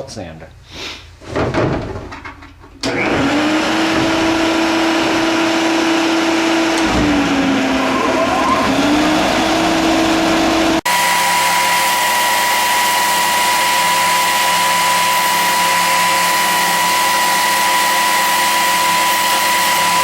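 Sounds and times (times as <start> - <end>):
belt sander sanding wood: 3.3 - 20.0.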